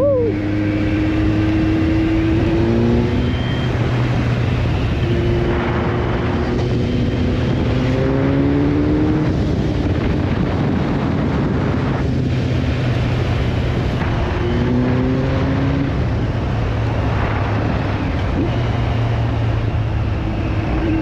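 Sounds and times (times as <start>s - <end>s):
vehicle engine running: 0.0s - 21.0s
wind and road noise: 0.0s - 21.0s.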